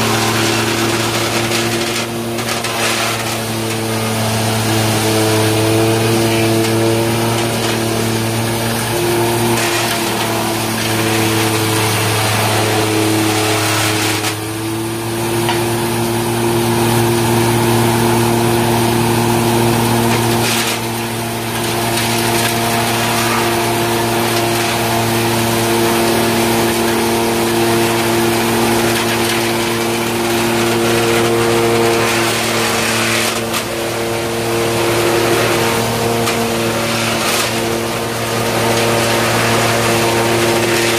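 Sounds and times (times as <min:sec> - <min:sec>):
harsh rushing grinding noise: 0:00.0 - 0:40.9
wood crusher hum and whine: 0:00.0 - 0:40.9.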